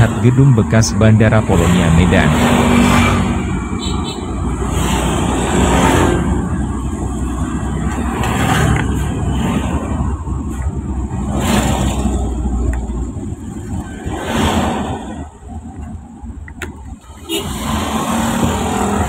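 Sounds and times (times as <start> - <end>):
cars passing: 0.0 - 19.0
motorcycles passing: 0.0 - 19.0
vehicle road and engine noise: 0.0 - 19.0.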